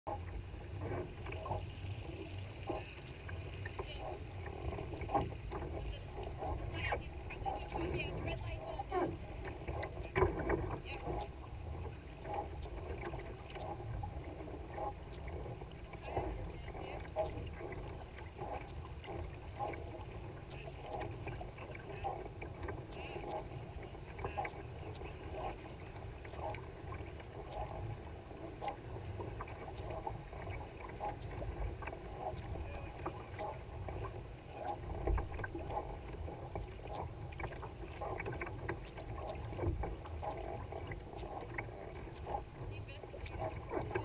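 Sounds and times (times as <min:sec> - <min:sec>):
paddle splashing in water: 0:00.1 - 0:44.0
water lapping on kayak hull: 0:00.1 - 0:44.0
wind rumble on microphone: 0:00.1 - 0:44.0.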